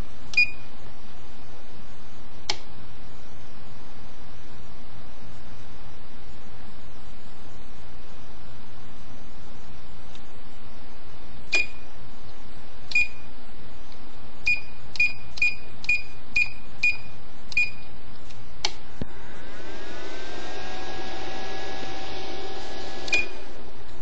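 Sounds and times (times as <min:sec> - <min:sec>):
cooling fan whirring: 0:00.0 - 0:24.0
steady hum: 0:00.0 - 0:24.0.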